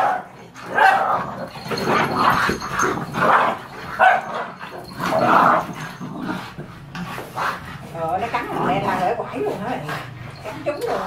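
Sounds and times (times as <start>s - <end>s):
dogs barking and growling: 0.0s - 11.0s.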